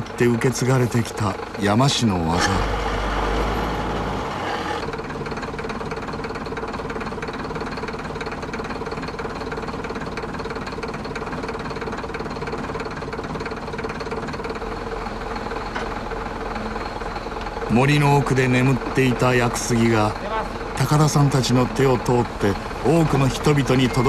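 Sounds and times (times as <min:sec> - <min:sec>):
engine running with rapid knock: 0:00.0 - 0:24.0.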